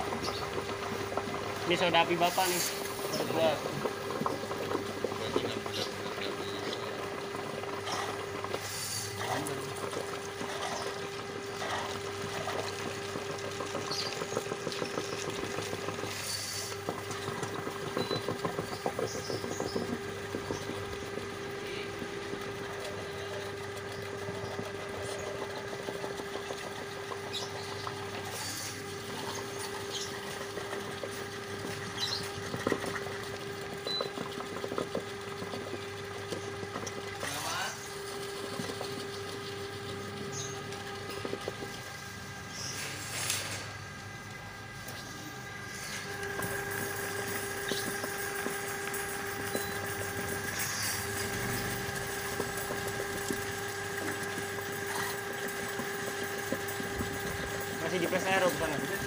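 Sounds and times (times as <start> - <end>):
drain cleaning machine motor hum: 0.0 - 59.0
water noise: 0.0 - 59.0.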